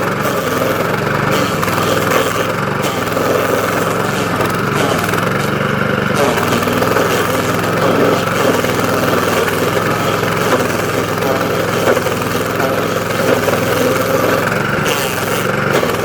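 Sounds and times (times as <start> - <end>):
cutter wheel grinding stump: 0.0 - 16.0
stump grinder engine under load: 0.0 - 16.0.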